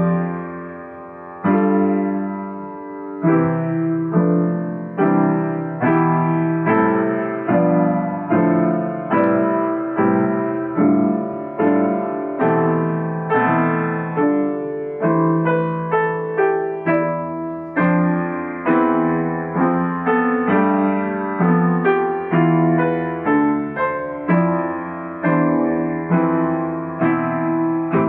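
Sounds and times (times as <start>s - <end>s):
piano notes and chords: 0.0s - 28.0s.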